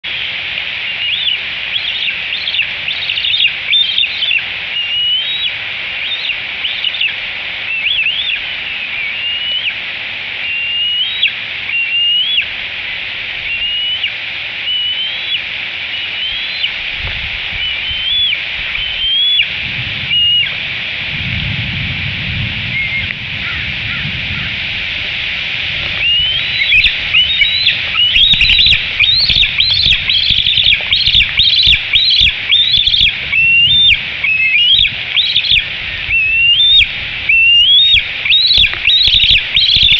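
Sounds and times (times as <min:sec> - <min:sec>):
eaglet whistled begging calls: 0:00.1 - 0:09.8, 0:10.4 - 0:12.5, 0:13.4 - 0:16.8, 0:17.5 - 0:20.6, 0:22.8 - 0:24.6, 0:25.8 - 0:39.9.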